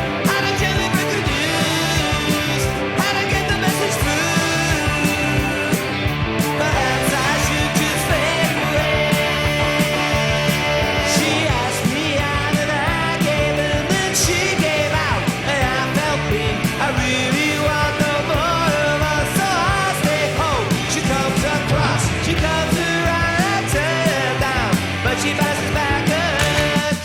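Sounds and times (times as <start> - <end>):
distorted guitars: 0.0 - 27.0
person singing: 0.0 - 27.0
steady drum beat: 0.0 - 27.0.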